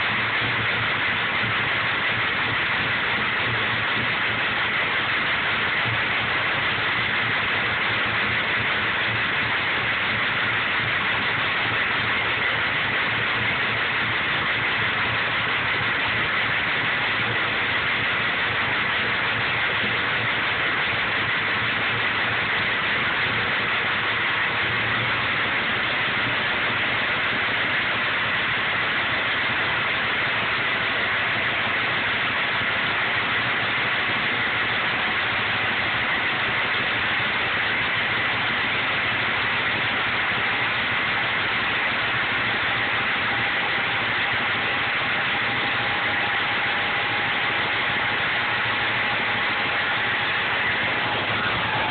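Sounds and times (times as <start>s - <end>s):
engine idling: 0.0s - 51.9s
even hiss-like noise: 0.0s - 51.9s.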